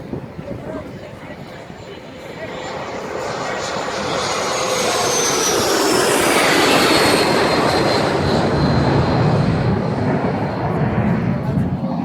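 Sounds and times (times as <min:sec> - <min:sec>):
jet flying low past: 0:00.0 - 0:12.0.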